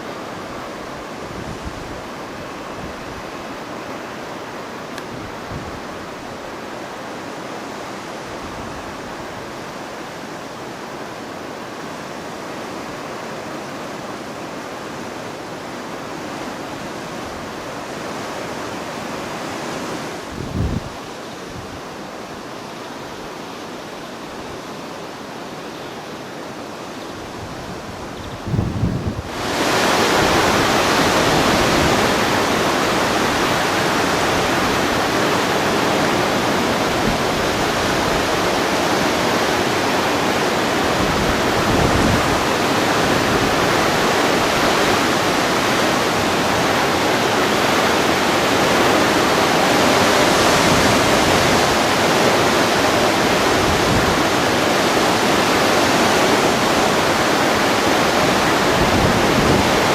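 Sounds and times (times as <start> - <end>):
gusting wind: 0.0 - 59.9.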